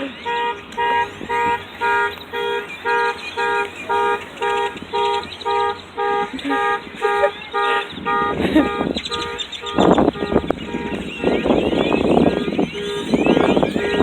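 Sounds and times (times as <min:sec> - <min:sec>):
birds chirping faintly: 0:00.0 - 0:14.0
car alarm horn honking: 0:00.0 - 0:14.0.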